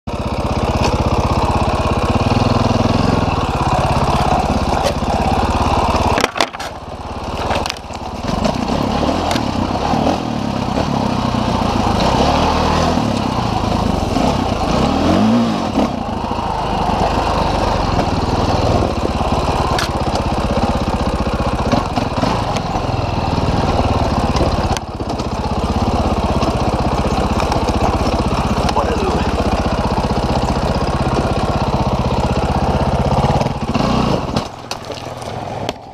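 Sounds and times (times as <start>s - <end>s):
dirt bike engine revving: 0.2s - 35.9s.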